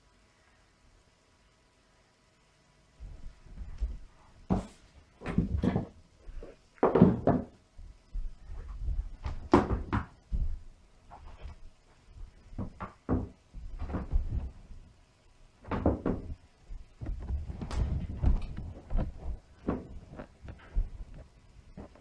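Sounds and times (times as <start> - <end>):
irregular knocks and thumps: 3.0 - 14.6, 15.6 - 22.0.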